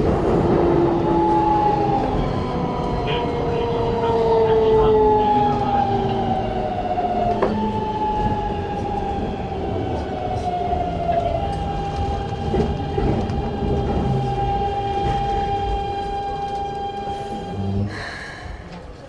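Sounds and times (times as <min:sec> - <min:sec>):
train inverter whining: 0:00.0 - 0:19.0
train wheel rumble: 0:00.0 - 0:19.0.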